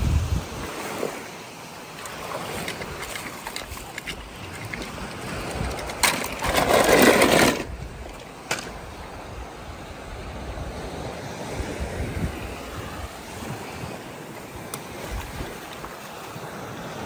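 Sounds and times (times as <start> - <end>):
wind noise on microphone: 0.0 - 1.2, 2.2 - 16.0
rush of water: 0.0 - 17.0.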